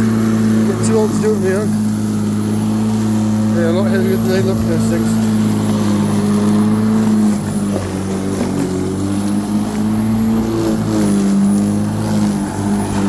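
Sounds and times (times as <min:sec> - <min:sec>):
electric lawnmower cutting grass: 0:00.0 - 0:13.0.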